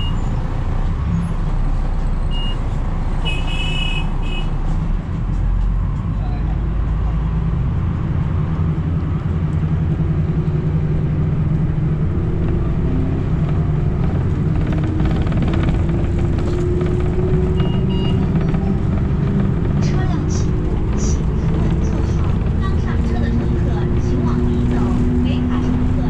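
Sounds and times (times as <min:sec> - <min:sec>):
bus drivetrain drone: 0:00.0 - 0:26.0
road noise: 0:00.0 - 0:26.0.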